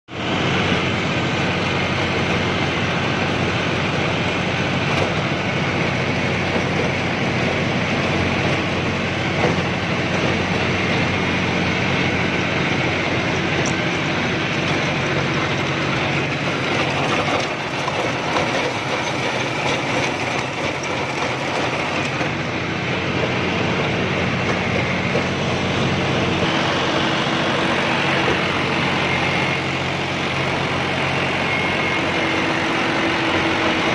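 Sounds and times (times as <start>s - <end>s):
tractor diesel engine running: 0.1s - 33.9s
rotavator rattling: 0.2s - 33.9s.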